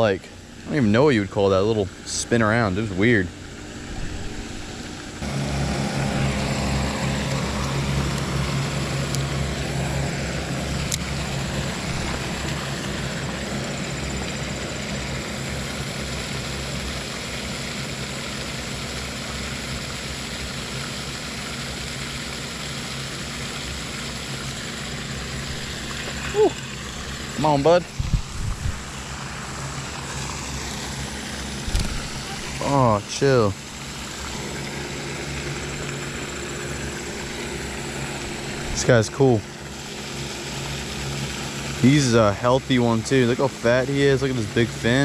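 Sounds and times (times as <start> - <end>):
engine drone with low hum: 0.0 - 45.0.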